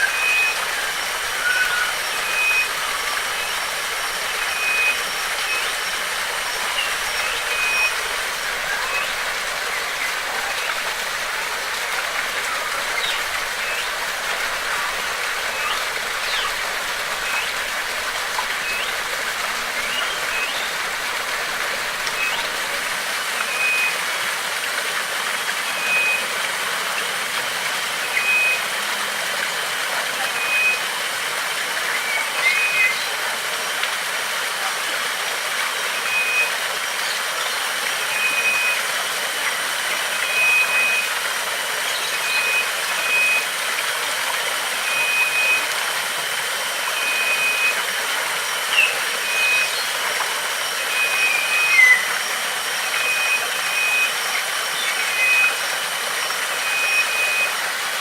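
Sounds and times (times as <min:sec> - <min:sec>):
thin high whine: 0:00.0 - 0:24.4, 0:35.8 - 0:58.0
running water rushing: 0:00.0 - 0:58.0.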